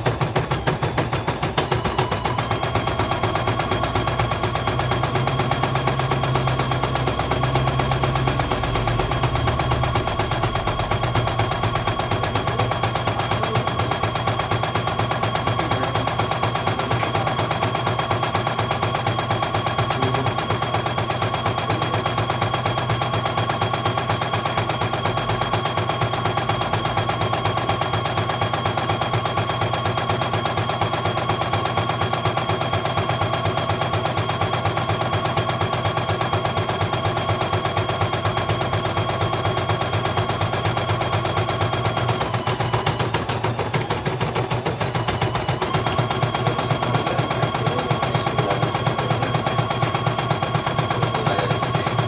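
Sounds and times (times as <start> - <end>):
motor whine: 0.0 - 52.0.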